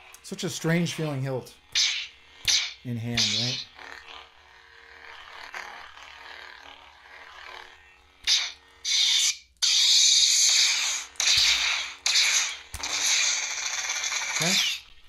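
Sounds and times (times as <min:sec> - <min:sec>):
lightsaber hum: 0:00.0 - 0:15.0.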